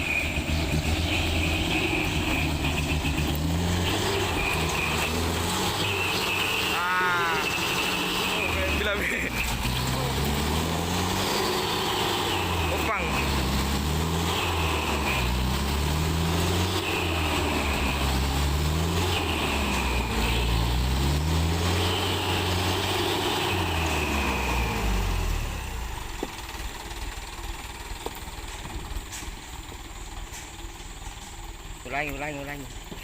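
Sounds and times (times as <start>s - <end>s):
truck engine straining under load: 0.0s - 33.0s.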